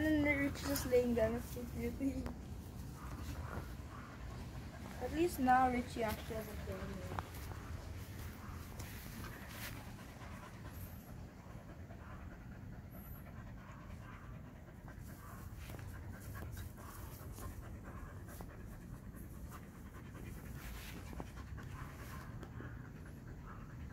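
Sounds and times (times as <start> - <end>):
dog panting: 0.0 - 23.9.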